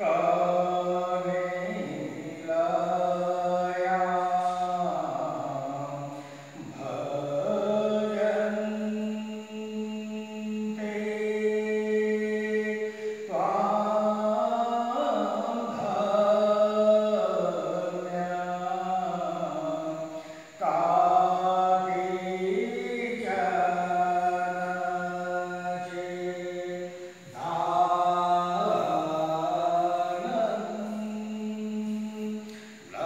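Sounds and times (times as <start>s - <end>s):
chant in long held notes: 0.0s - 33.0s.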